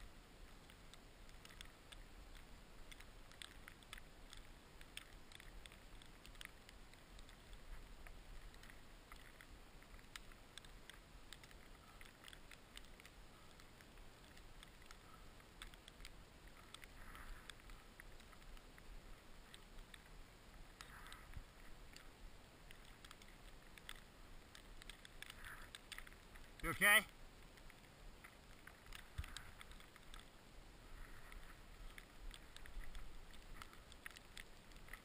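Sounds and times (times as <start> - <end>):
faint hiss: 0.0 - 35.0.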